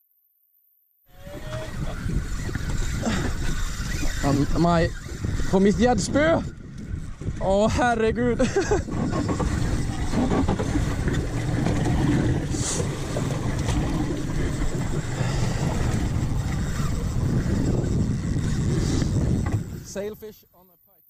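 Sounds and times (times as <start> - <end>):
boat engine running: 1.1 - 20.2.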